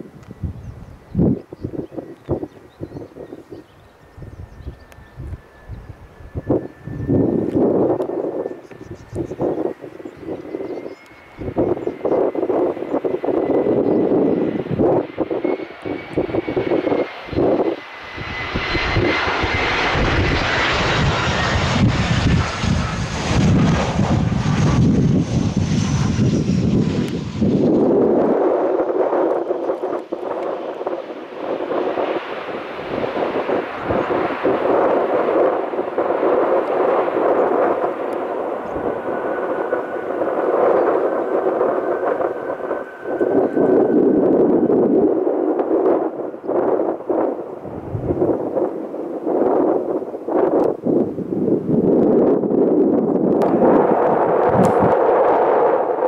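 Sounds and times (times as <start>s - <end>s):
jet airliner engines rumbling: 0.0s - 56.0s
wind buffeting microphone: 0.0s - 56.0s.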